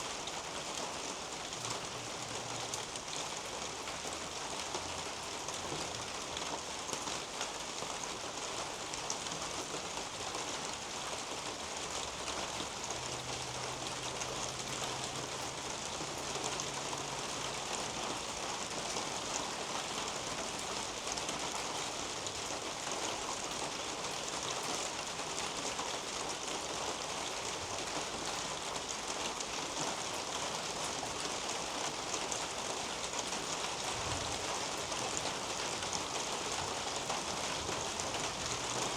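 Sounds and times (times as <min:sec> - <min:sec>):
rain on leaves and roof: 0:00.0 - 0:38.9.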